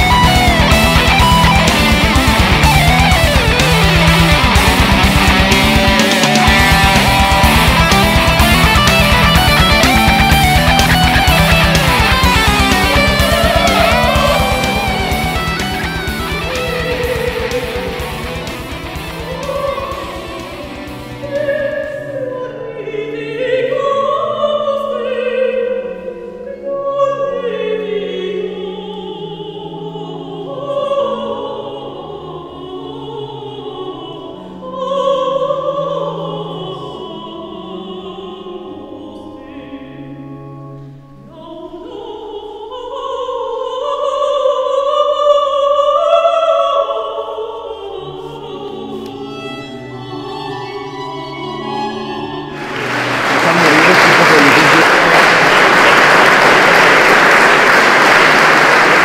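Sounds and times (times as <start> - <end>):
vocal ensemble singing: 0.0 - 40.2, 41.2 - 59.0.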